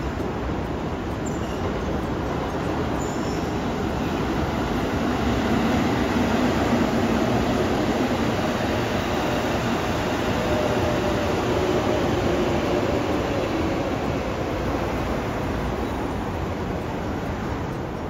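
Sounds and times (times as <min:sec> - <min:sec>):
train rumbling by: 0:00.0 - 0:18.0.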